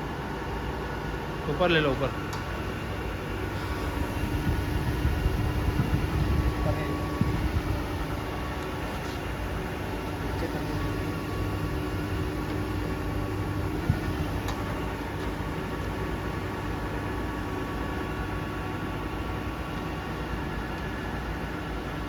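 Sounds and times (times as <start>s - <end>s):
grinding machine humming: 1.9s - 21.9s.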